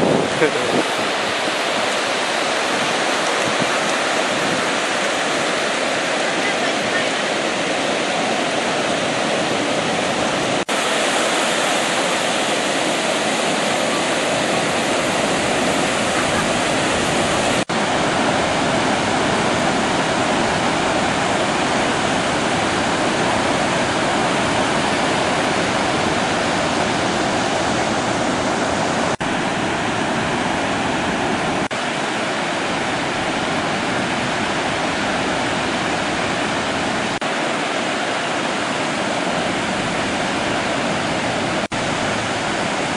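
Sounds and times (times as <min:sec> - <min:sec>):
ocean surf rushing: 0:00.0 - 0:42.9.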